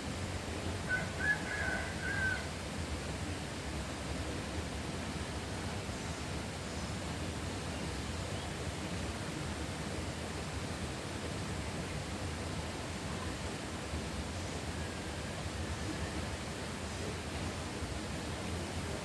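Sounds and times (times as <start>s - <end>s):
outdoor nature ambience: 0.0s - 19.0s.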